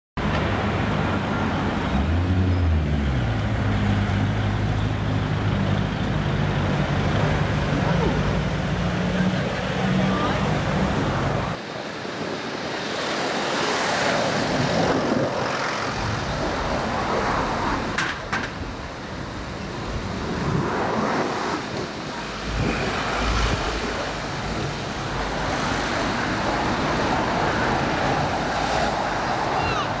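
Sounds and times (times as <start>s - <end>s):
passing cars: 0.2s - 30.0s.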